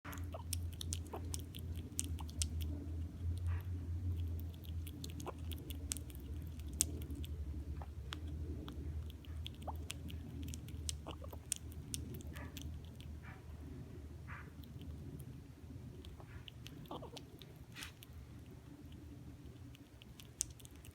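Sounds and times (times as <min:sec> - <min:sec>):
steady low hum: 0:00.0 - 0:20.9
squirrel chewing peanuts: 0:00.1 - 0:20.9.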